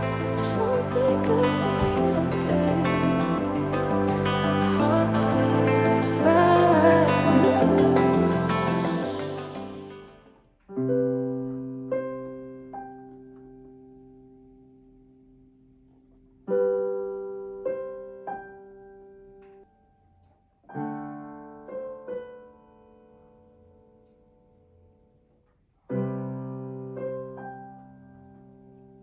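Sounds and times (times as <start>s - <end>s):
slow solo piano: 0.0s - 10.0s, 10.7s - 29.0s.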